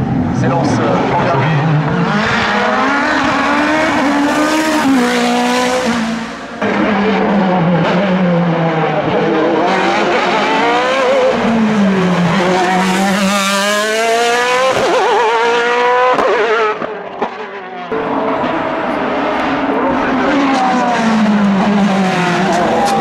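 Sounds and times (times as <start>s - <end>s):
race car engine revving: 0.0s - 23.0s.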